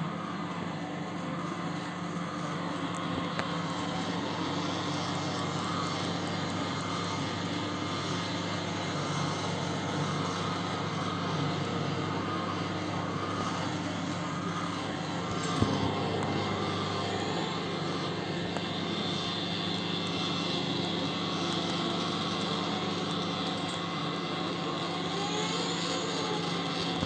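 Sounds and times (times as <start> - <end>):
microwave oven humming: 0.0 - 27.0.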